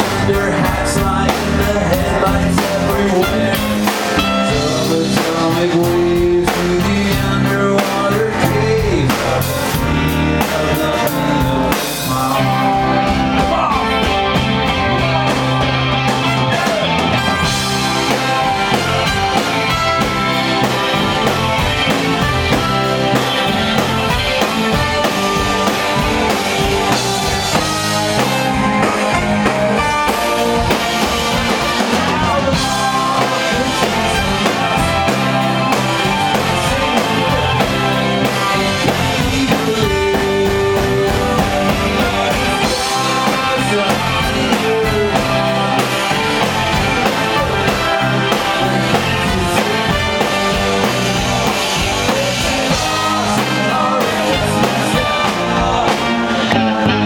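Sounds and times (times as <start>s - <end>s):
bass guitar: 0.0s - 57.0s
drum kit: 0.0s - 57.0s
electric guitar: 0.0s - 57.0s
live rock band playing: 0.0s - 57.0s
saxophone: 8.8s - 57.0s
trombone: 9.1s - 57.0s.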